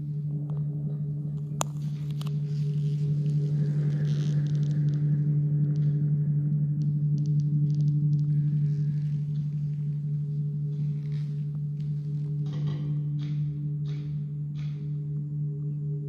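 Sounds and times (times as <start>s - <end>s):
steady low drone: 0.0s - 16.0s.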